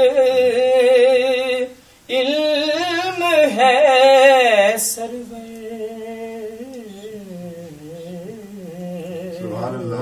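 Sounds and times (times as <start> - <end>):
man singing: 0.0 - 10.0.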